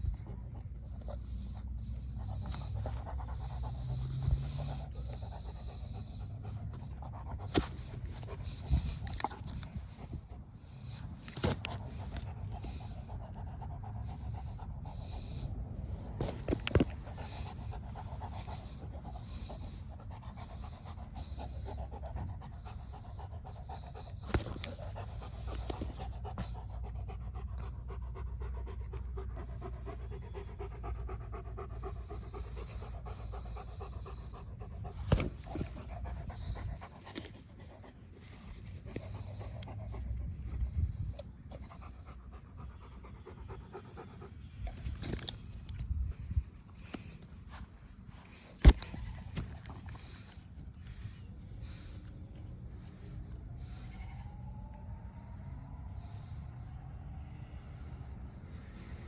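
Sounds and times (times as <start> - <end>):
dog panting: 0.0 - 54.8.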